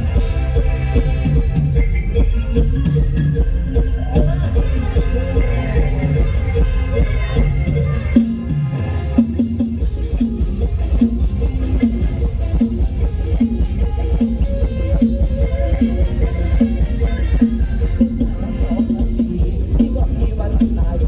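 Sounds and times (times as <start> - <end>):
band music with drums and guitar: 0.0 - 21.0.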